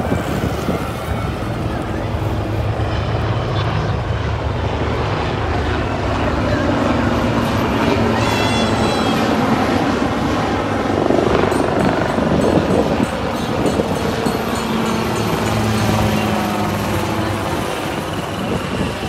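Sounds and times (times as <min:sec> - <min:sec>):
faint voices: 0:00.0 - 0:19.0
helicopter rotor and turbine noise: 0:00.0 - 0:19.0.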